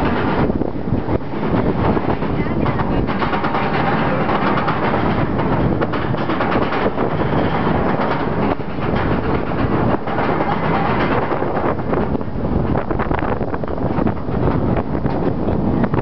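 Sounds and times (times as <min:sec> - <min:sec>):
roller coaster train rattling on track: 0:00.0 - 0:16.0.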